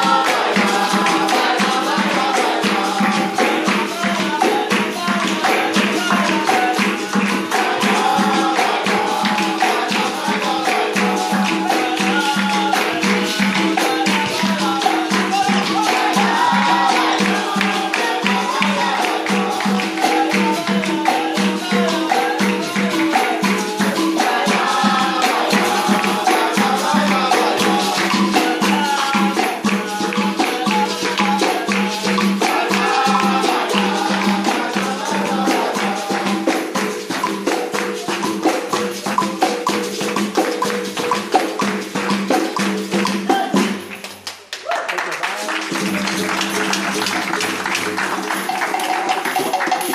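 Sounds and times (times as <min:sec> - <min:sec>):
voices singing: 0:00.0 - 0:43.8
pandeiro jingling beat: 0:00.0 - 0:44.4, 0:45.5 - 0:49.9.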